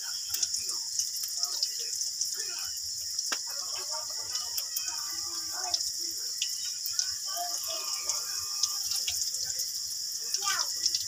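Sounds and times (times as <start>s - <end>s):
deep-frying sizzle with pops: 0.0s - 11.0s.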